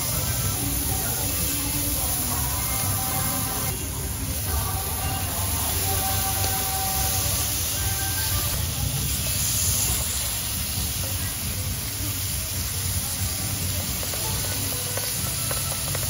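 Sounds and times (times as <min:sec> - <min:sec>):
beef sizzling on grill: 0:00.0 - 0:16.0.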